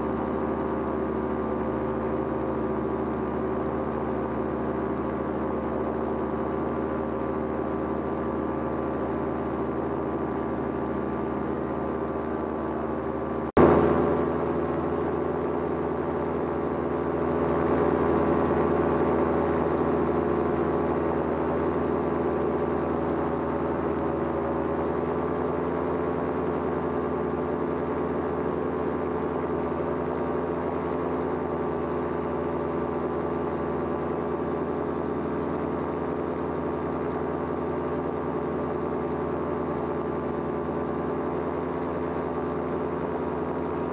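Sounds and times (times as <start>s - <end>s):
paramotor engine and propeller: 0.0s - 43.9s.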